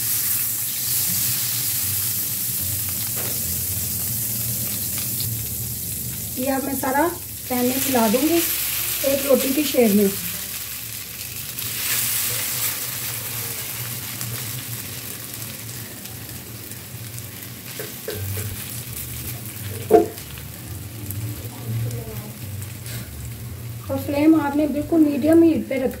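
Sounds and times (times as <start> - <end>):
potato sizzling in frying pan: 0.0 - 26.0.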